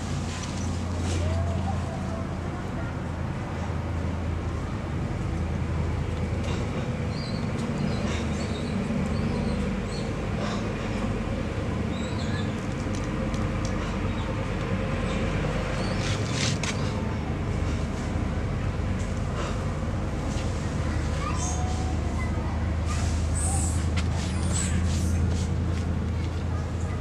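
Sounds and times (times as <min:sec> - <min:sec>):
low mechanical drone: 0:00.0 - 0:27.0.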